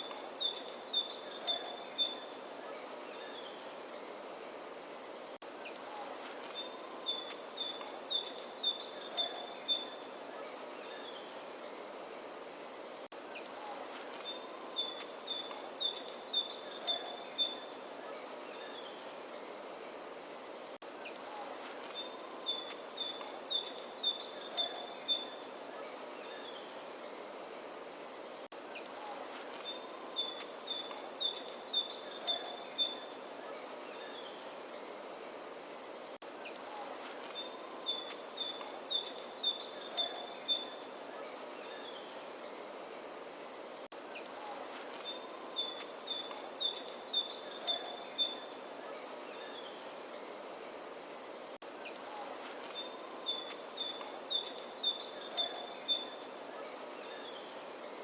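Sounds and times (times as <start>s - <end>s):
songbird singing: 0.0s - 58.0s
steady outdoor hiss: 0.0s - 58.0s.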